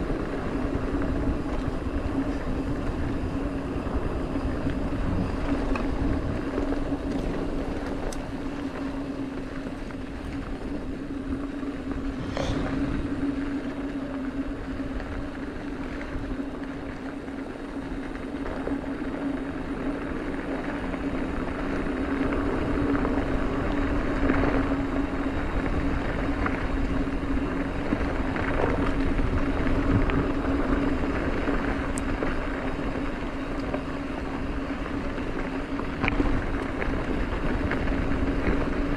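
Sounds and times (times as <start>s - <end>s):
wind on microphone: 0.0s - 17.6s, 21.0s - 38.9s
bike clicks and rattles: 0.0s - 38.9s
bike wheels humming: 0.0s - 38.9s.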